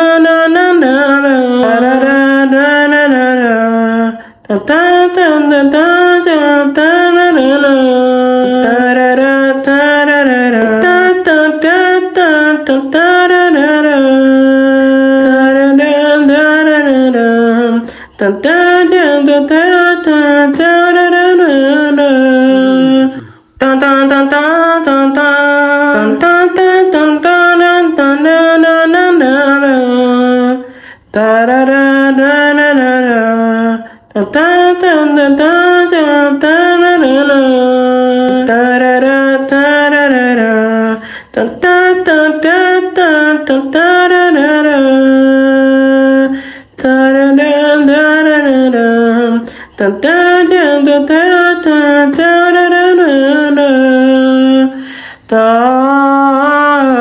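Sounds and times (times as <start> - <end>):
person singing unaccompanied: 0.0 - 57.0.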